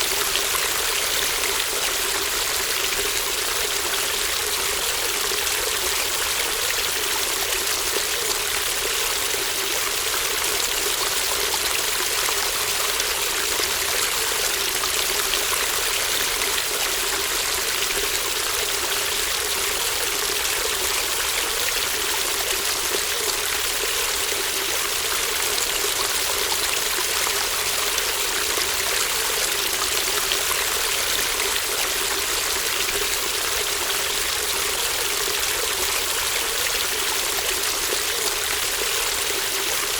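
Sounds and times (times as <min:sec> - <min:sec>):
babbling brook: 0:00.0 - 0:39.9.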